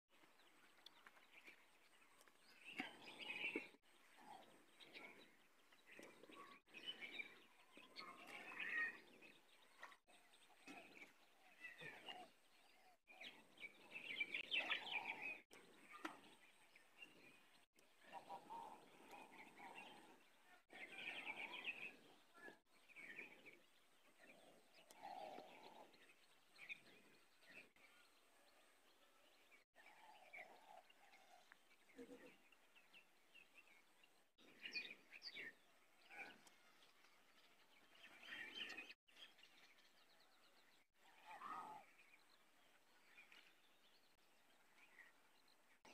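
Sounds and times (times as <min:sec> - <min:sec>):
birds chirping: 0:00.1 - 0:45.9.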